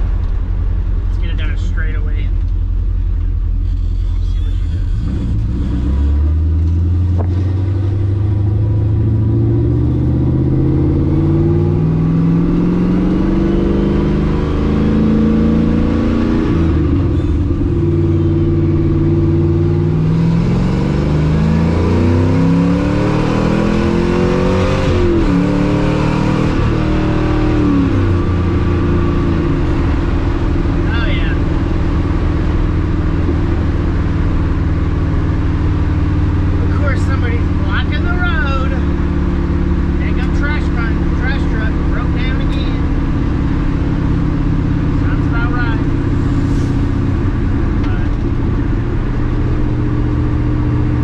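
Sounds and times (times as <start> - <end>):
car engine accelerating through gears: 0.0 - 51.0.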